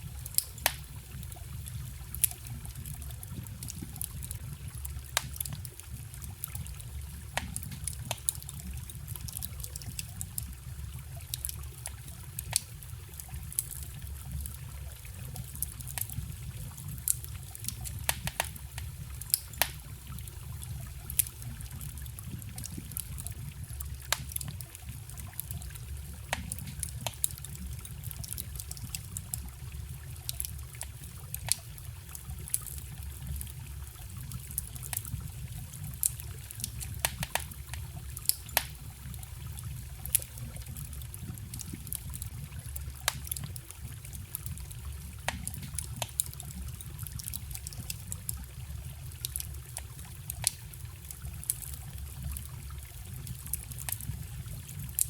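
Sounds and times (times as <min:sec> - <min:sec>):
campfire crackling and popping: 0:00.0 - 0:55.0
trickling forest stream: 0:00.0 - 0:55.0.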